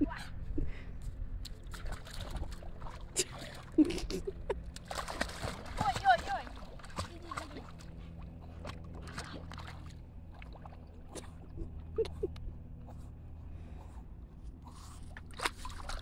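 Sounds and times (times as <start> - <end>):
steady low hum: 0.0 - 16.0
dog paddling in shallow water: 1.5 - 16.0.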